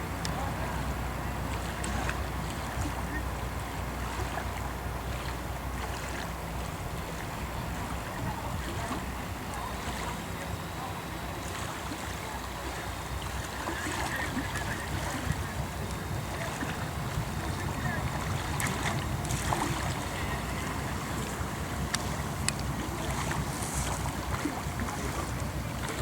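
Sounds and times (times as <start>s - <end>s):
boat engine droning: 0.0s - 26.0s
water noise: 0.0s - 26.0s
wind: 0.0s - 26.0s.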